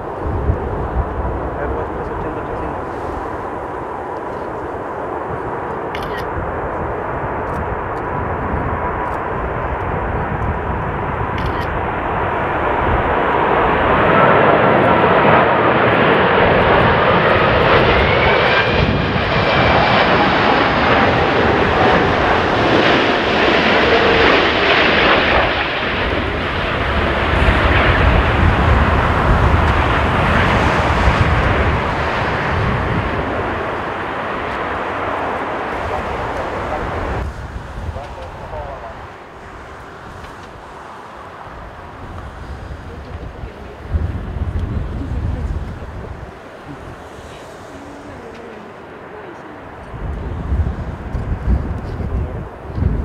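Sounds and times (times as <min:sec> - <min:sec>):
jet airliner passing: 0:00.0 - 0:53.0
low rumble: 0:00.0 - 0:53.0.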